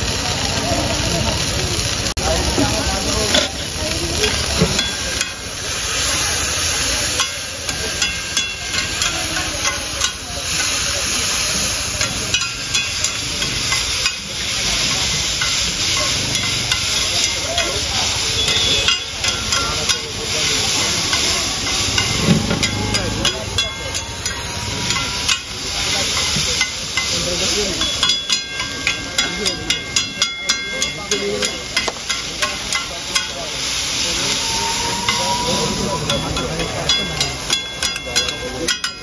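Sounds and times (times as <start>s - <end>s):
noodles sizzling on griddle: 0.0s - 39.0s
spatulas scraping griddle: 0.9s - 39.0s
spatulas clinking on griddle: 1.4s - 39.0s.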